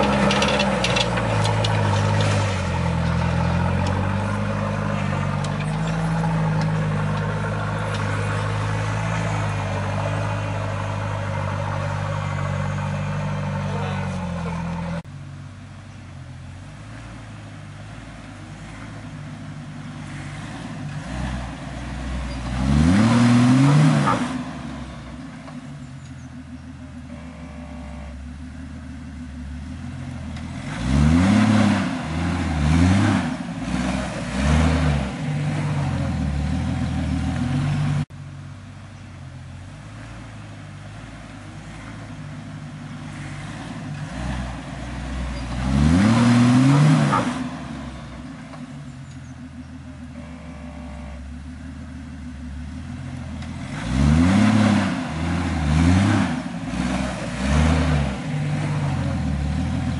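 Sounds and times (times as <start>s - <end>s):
off-road vehicle engine revving: 0.0s - 15.1s, 16.4s - 38.2s, 39.0s - 59.9s.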